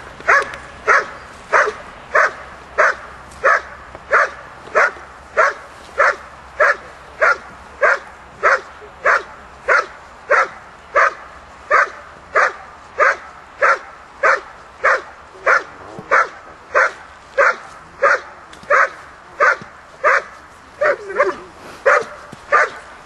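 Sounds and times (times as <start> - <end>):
dog barking: 0.3 - 22.9.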